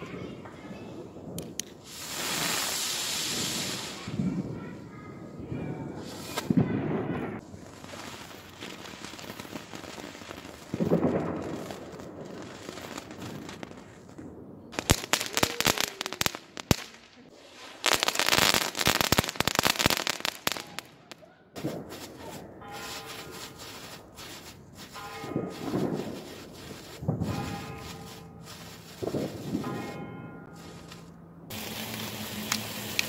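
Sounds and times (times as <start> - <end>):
firework crackling hiss: 1.6 - 4.6, 6.0 - 30.0, 30.6 - 33.0.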